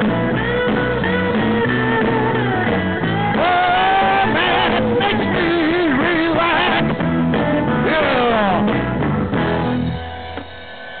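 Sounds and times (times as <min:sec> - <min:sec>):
rock band with guitar: 0:00.0 - 0:11.0.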